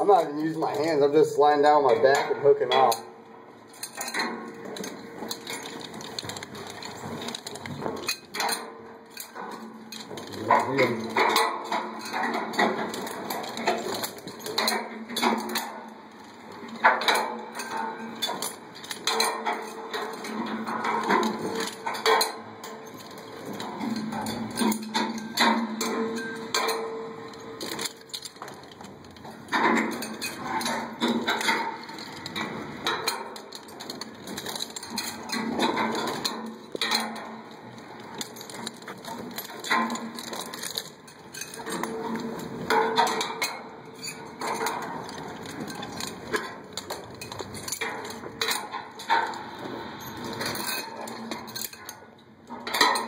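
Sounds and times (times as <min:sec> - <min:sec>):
knocks and clatters: 0:01.6 - 0:53.0.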